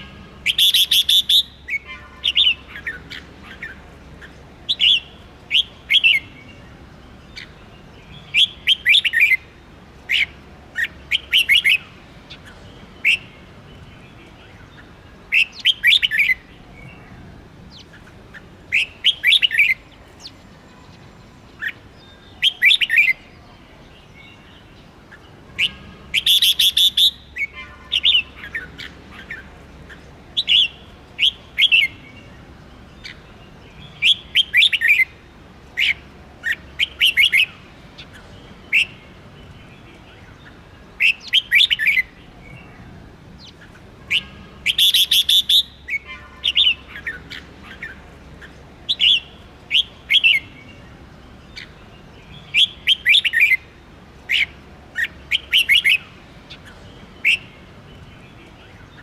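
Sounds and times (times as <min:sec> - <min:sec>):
bird chirping song: 0:00.0 - 0:59.0.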